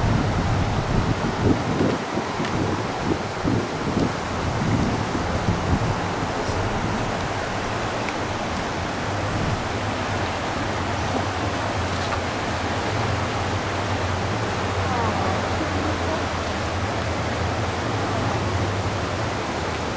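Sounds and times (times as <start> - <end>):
river rushing over rapids: 0.0 - 19.9.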